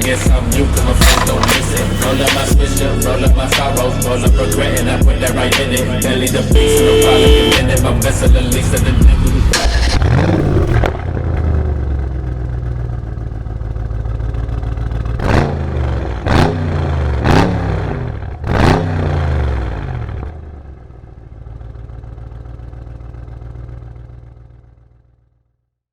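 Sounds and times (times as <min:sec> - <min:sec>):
car engine idling and revving: 0:00.0 - 0:25.4.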